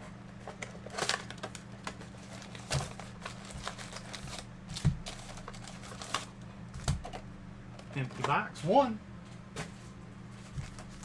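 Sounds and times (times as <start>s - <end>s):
card packs crinkling and clicking: 0.2s - 8.4s, 10.4s - 11.0s.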